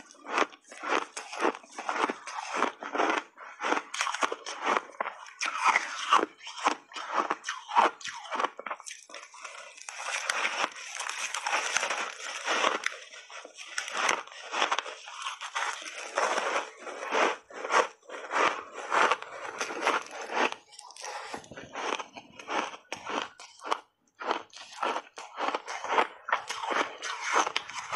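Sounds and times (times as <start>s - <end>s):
grinding chews: 0.0s - 27.9s
ice crunching in mouth: 0.0s - 27.9s.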